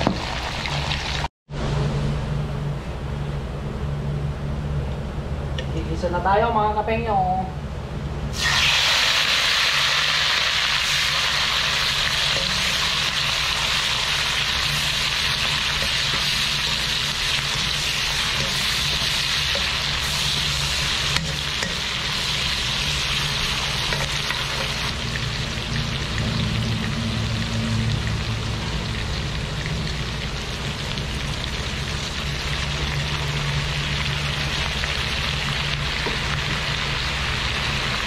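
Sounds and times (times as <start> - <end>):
onions sizzling in oil: 0.0 - 1.3, 8.3 - 38.0.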